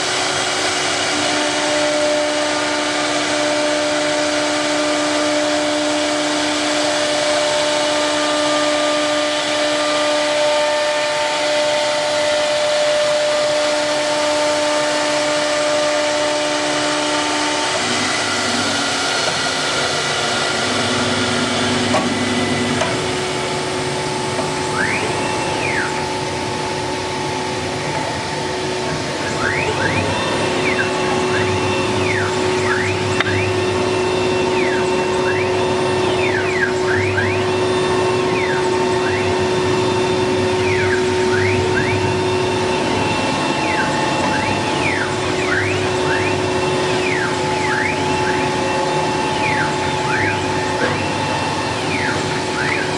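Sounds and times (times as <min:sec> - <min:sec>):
drive motors whining up and down: 0:00.0 - 0:52.9
router spindle whine: 0:00.0 - 0:52.9.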